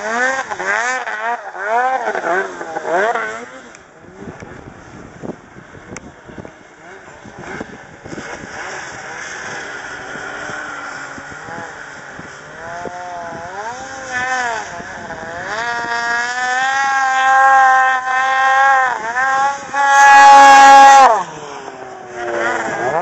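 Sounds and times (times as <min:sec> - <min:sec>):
snowmobile engine revving: 0:00.0 - 0:23.0.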